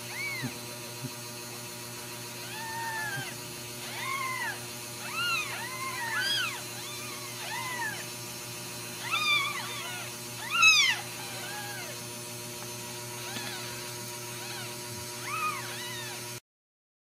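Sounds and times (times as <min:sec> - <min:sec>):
kittens mewing: 0:00.0 - 0:01.2, 0:02.2 - 0:12.1, 0:13.0 - 0:16.3.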